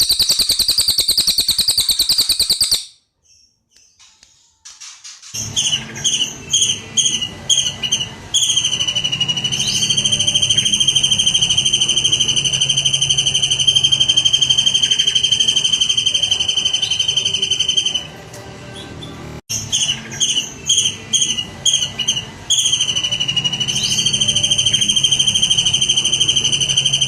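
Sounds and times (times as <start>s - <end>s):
songbird whistled notes and trill: 0.0s - 3.6s, 5.4s - 18.2s, 18.8s - 27.0s.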